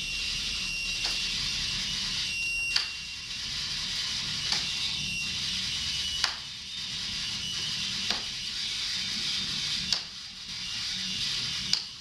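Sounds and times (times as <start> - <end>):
electronic drone with low hum: 0.0 - 12.0.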